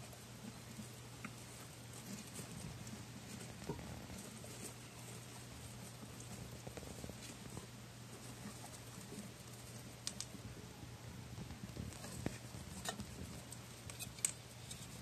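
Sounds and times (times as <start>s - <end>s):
hamsters scrabbling in bedding: 0.0s - 10.5s, 11.3s - 15.0s.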